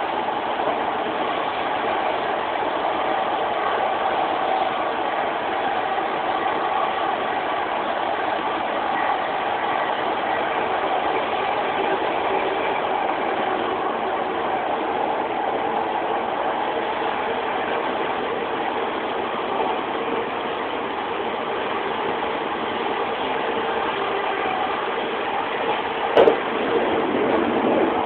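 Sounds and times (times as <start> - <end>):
train diesel engine running: 0.0 - 28.0.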